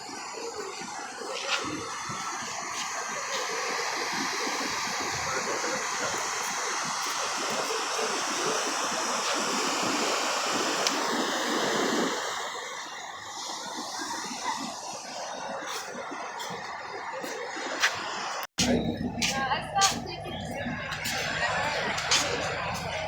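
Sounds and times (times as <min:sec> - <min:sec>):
surf washing on beach: 0:00.0 - 0:18.5.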